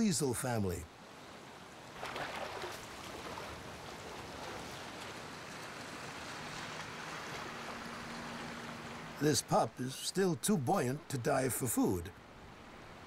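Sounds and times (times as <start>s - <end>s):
surf washing in: 0.0s - 13.0s.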